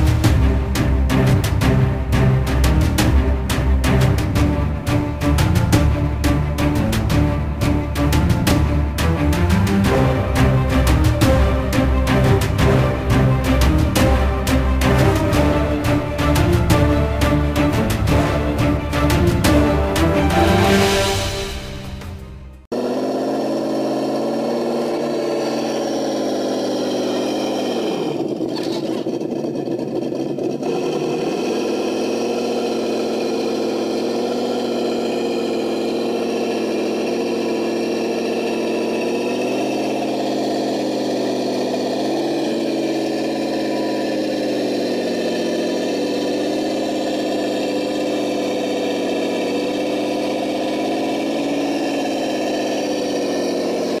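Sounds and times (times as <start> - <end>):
simulated truck engine idling: 0.0 - 54.0.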